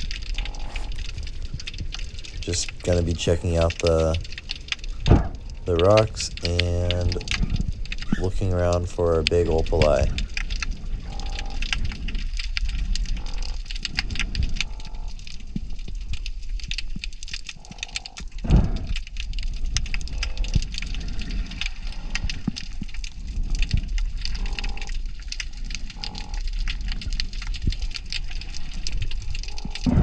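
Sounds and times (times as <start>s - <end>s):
dense crackle of underwater clicks: 0.0s - 30.0s
low underwater rumble: 0.0s - 30.0s.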